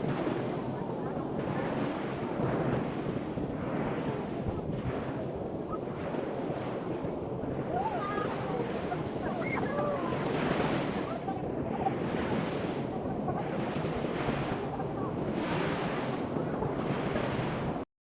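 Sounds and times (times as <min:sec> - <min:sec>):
ocean surf breaking: 0:00.0 - 0:17.8
wind buffeting microphone: 0:00.0 - 0:17.8.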